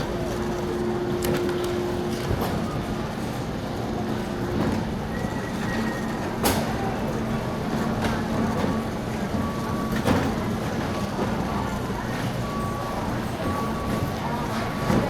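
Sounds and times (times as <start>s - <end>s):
store din with low hum: 0.0s - 15.0s.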